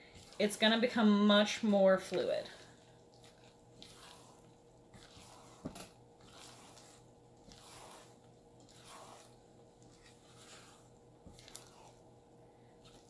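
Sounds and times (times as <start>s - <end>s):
spatula squishing batter: 0.0s - 13.0s.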